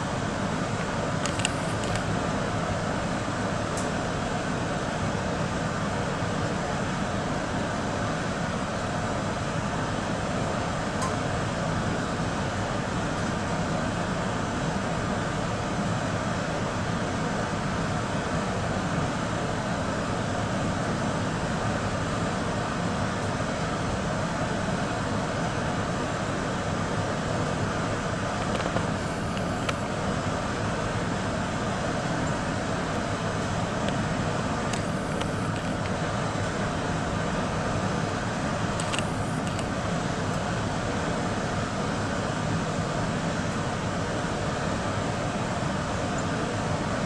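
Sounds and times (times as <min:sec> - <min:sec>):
steady background noise: 0:00.0 - 0:47.0.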